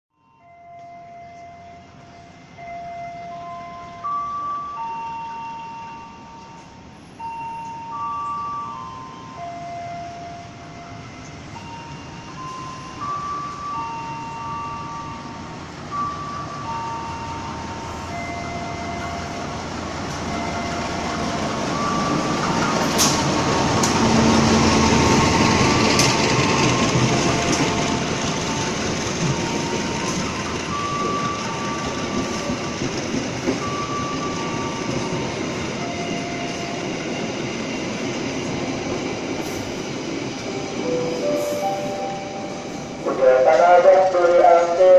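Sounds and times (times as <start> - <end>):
passenger train passing: 0.2 - 44.9.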